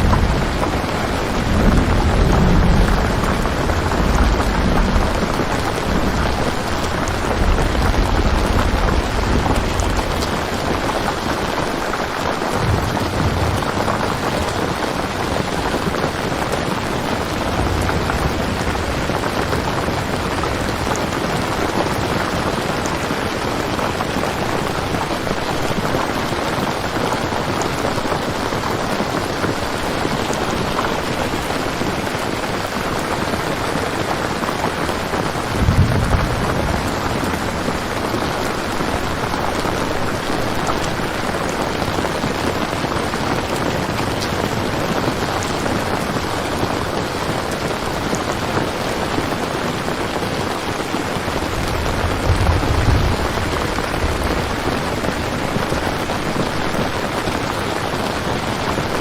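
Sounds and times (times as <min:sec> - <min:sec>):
heavy rain falling: 0:00.0 - 0:59.0
thunder rumbling: 0:00.0 - 0:59.0.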